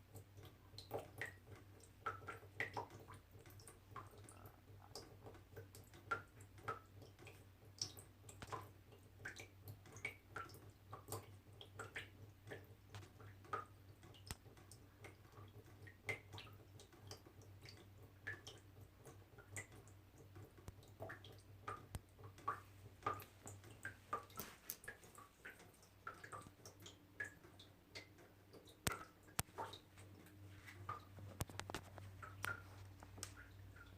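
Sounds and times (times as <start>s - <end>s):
water droplets dripping: 0.0s - 33.9s.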